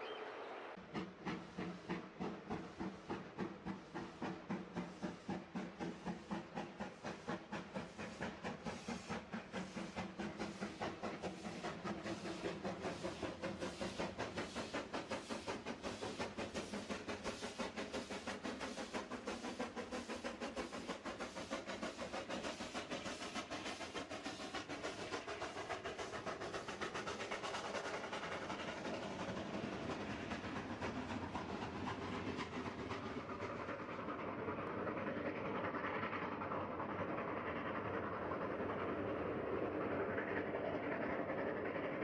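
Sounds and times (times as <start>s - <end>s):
steam locomotive chuffing: 0.1s - 42.0s.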